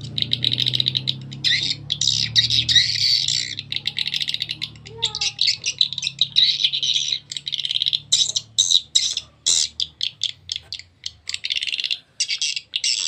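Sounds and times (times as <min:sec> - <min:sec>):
buzzy bird chirps through speakers: 0:00.0 - 0:13.0.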